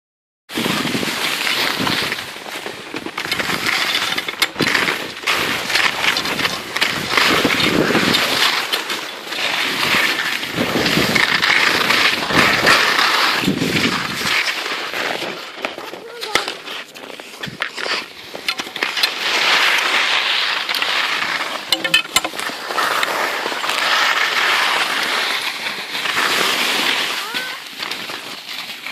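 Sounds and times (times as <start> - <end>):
skis scraping over snow: 0.5 - 28.9.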